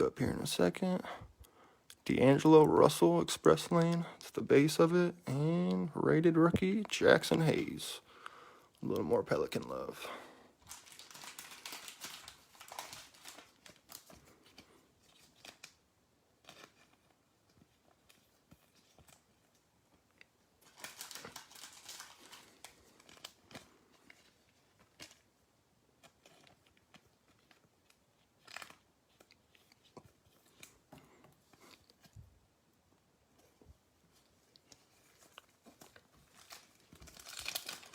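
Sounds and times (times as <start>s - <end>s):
card wrappers crinkling: 1.9s - 8.2s, 8.8s - 32.2s, 34.1s - 37.9s.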